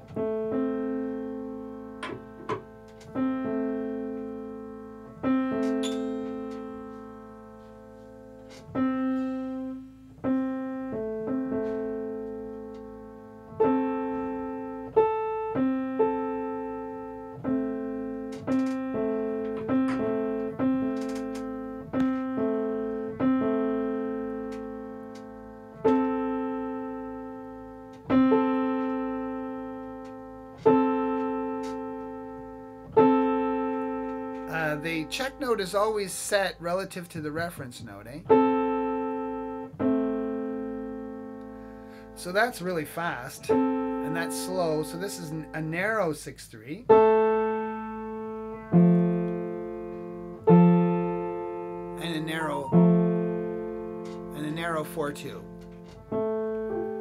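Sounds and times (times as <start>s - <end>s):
piano notes being tuned: 0.0s - 57.0s.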